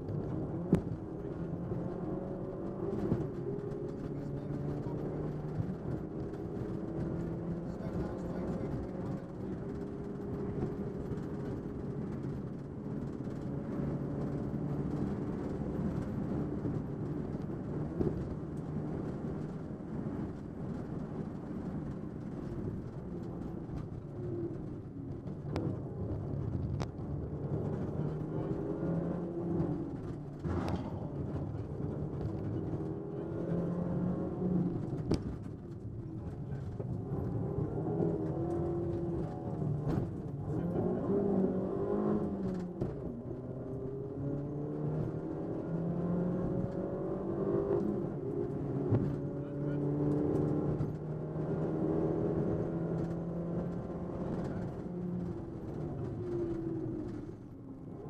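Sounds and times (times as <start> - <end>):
car engine revving: 0.0 - 58.0
tyre and road noise: 0.0 - 58.0.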